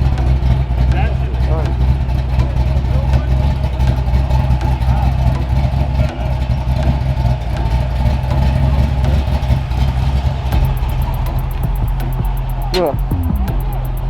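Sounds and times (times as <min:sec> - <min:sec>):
car engines running: 0:00.0 - 0:14.0
people talking: 0:00.0 - 0:14.0.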